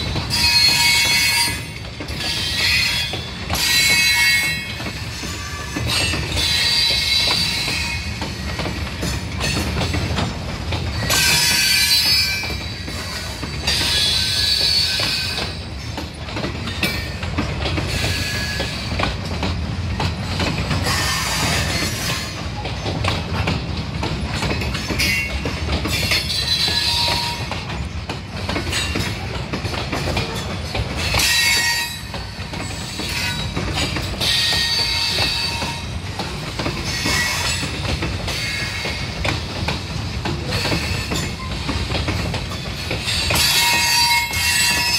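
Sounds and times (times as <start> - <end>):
freight train rumbling: 0.0 - 44.9
wheels squealing on rails: 0.0 - 44.9.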